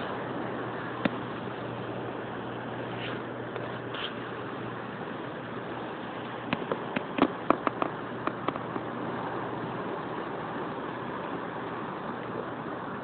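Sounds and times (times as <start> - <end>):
sea noise: 0.0 - 13.0
wind: 0.0 - 13.0.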